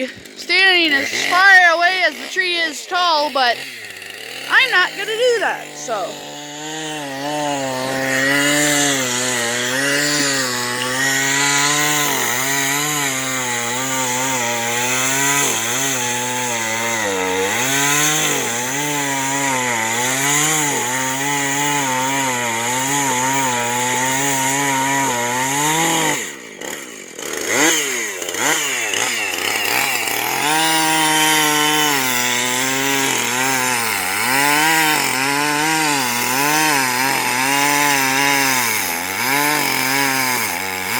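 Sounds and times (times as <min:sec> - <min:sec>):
chainsaw cutting tree trunk: 0:00.0 - 0:40.9.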